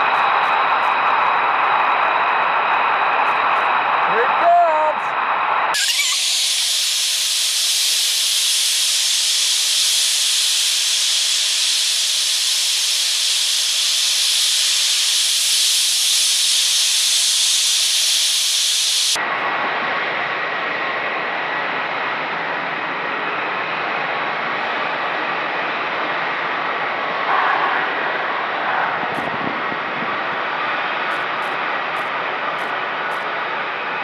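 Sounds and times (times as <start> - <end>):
jet aircraft taxiing: 0.0 - 34.0
jet engines idling: 0.0 - 34.0.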